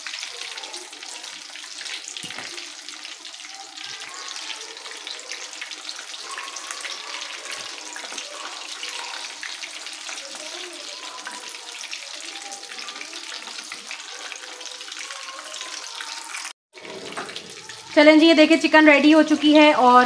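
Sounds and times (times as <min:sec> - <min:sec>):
spatula turning food in pan: 0:00.0 - 0:18.0
chicken sizzling in hot oil: 0:00.0 - 0:20.0.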